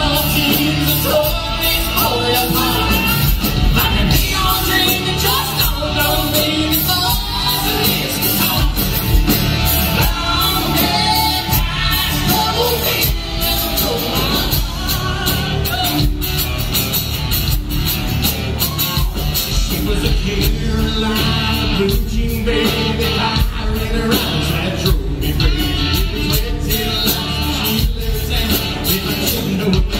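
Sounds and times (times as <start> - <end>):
country-rock band playing: 0.0 - 29.9.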